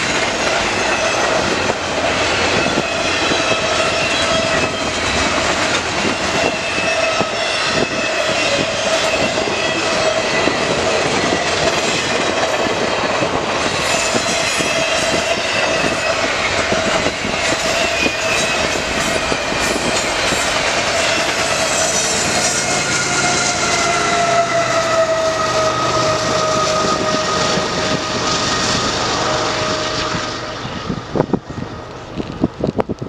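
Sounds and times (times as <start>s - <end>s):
freight train wheels clattering on rails: 0.0s - 33.0s
wind gusting on microphone: 0.0s - 33.0s.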